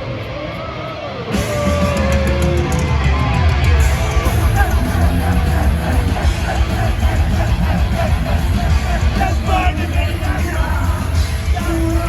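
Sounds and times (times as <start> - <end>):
distorted electric guitars: 0.0 - 12.0
heavy metal band playing: 0.0 - 12.0.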